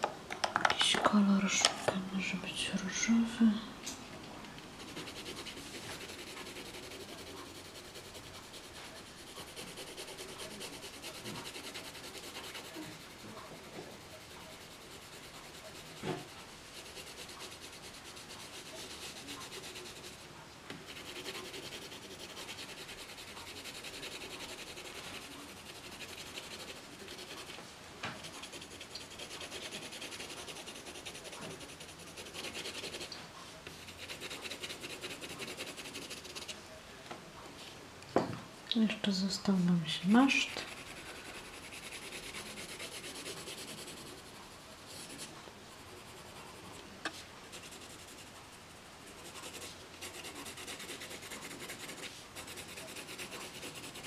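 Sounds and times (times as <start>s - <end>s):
pencil scratching on paper: 4.7s - 27.6s, 28.2s - 36.6s, 40.0s - 54.0s.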